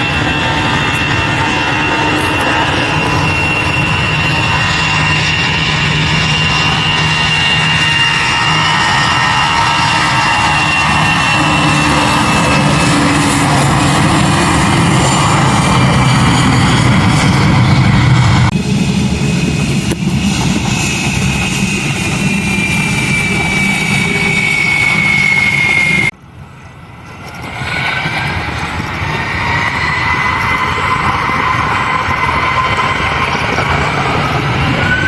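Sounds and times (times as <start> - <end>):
aircraft engines whining: 0.0 - 35.0.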